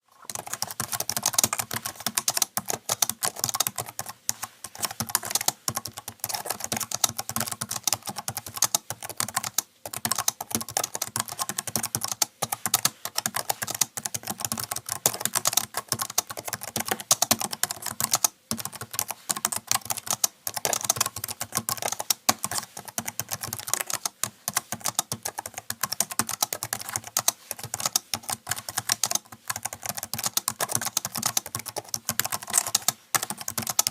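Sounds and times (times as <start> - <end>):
rapid keyboard typing: 0.2 - 33.9.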